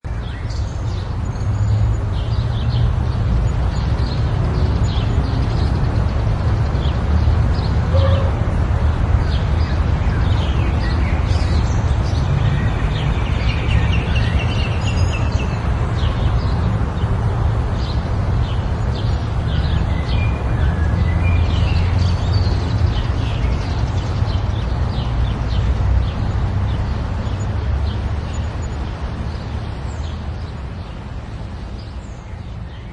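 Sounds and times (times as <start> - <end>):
birds chirping and twittering: 0.1 - 32.9.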